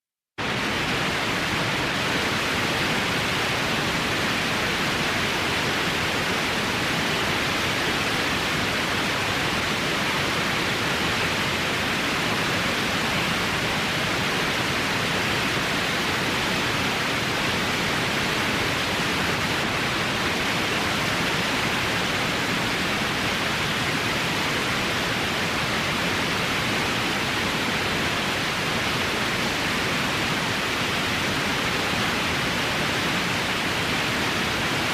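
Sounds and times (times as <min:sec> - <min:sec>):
white noise hiss: 0:00.4 - 0:34.9.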